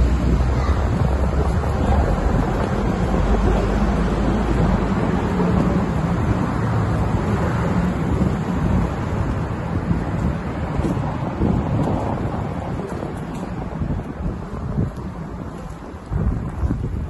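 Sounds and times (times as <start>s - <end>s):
cars passing on road: 0.0s - 17.0s
wind rumble on microphone: 0.0s - 17.0s.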